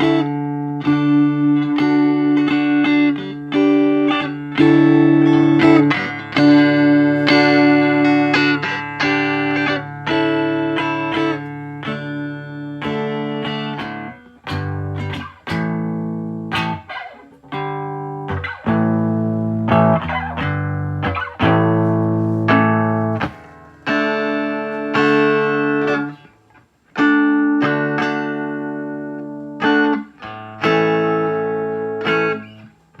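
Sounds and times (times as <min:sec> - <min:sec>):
electric guitar chords ringing: 0:00.0 - 0:33.0.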